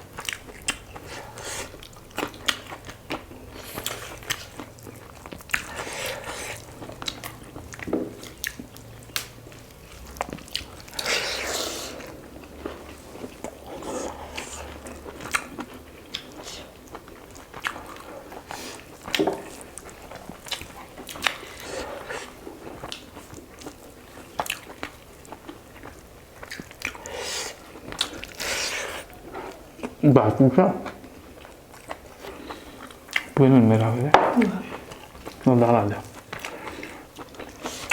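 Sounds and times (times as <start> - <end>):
person chewing food: 0.0 - 37.9.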